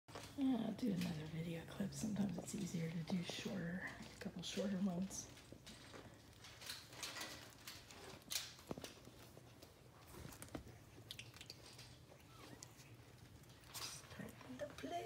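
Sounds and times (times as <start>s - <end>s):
puppies chewing and rustling: 0.1s - 15.0s.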